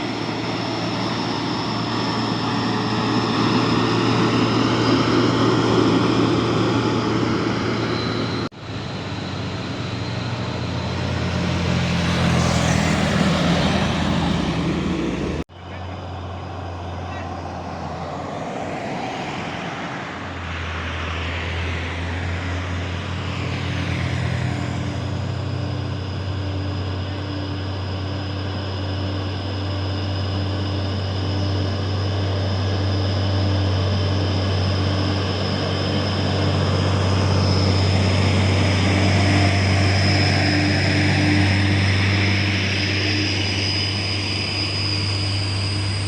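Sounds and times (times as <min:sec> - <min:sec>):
truck diesel engine droning: 0:00.0 - 0:46.0.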